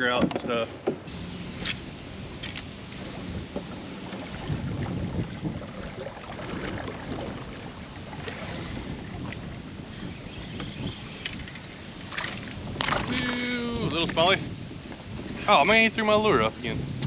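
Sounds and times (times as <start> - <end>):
wind buffeting microphone: 0.0 - 17.0
water washing against kayak hull: 0.1 - 17.0.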